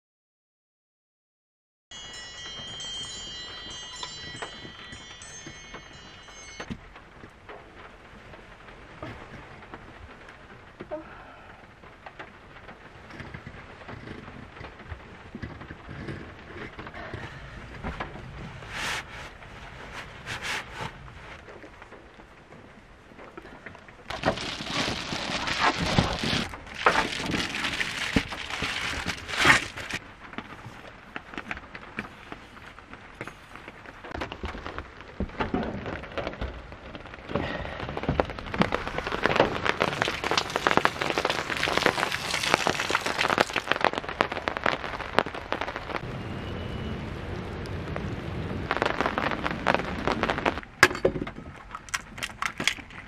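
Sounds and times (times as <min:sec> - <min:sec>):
rain pattering: 0:02.1 - 0:53.0.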